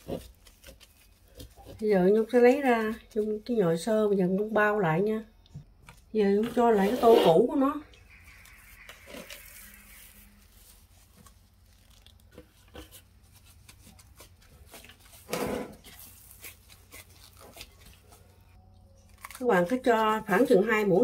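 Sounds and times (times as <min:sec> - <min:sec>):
squishing dough in plastic glove: 0:00.0 - 0:04.8, 0:06.4 - 0:21.0.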